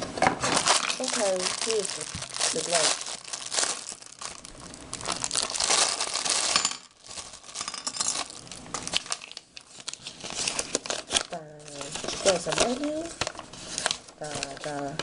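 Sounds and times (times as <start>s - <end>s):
plastic bag crinkling: 0.4s - 15.0s.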